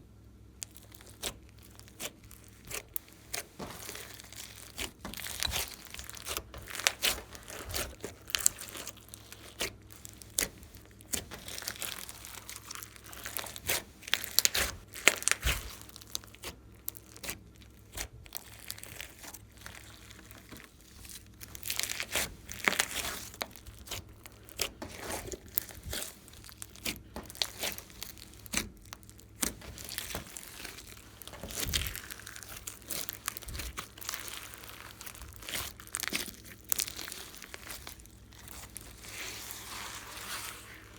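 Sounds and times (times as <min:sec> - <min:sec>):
sticky slime crackling: 0:00.6 - 0:40.9.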